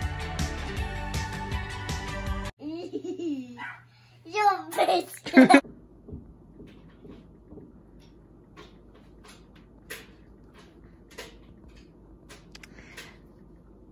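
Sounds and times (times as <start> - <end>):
low room hum: 2.6 - 13.9.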